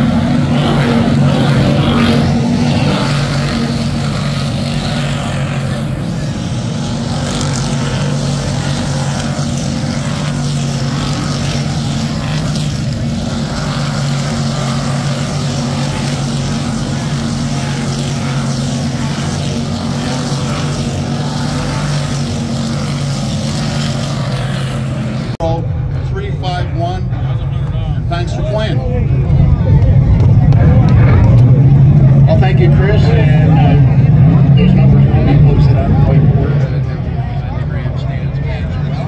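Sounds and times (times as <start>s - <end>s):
race car engines droning: 0.0s - 39.0s.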